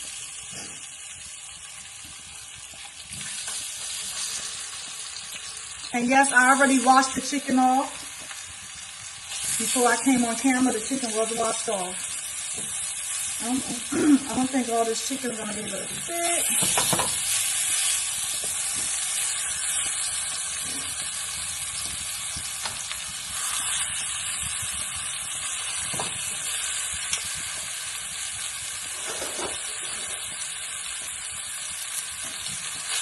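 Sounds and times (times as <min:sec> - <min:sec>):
chicken frying in hot oil: 0:00.0 - 0:33.0.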